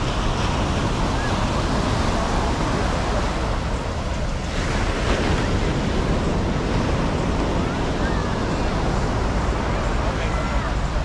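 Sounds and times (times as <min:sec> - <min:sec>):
ocean surf waves: 0:00.0 - 0:11.0
wind rumble on microphone: 0:00.0 - 0:11.0.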